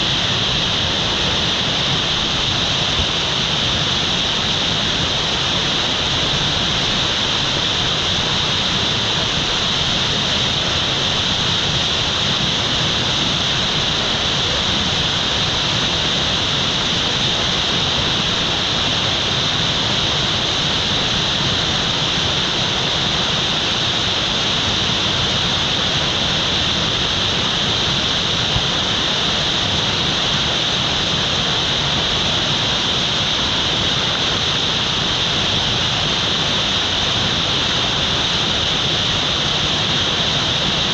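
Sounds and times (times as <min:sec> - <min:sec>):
whitewater rushing: 0:00.0 - 0:40.9.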